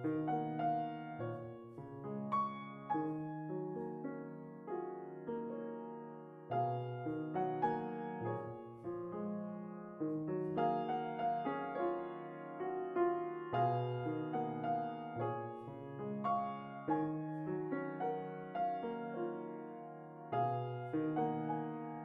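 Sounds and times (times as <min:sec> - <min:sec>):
calm keyboard music: 0:00.0 - 0:22.0.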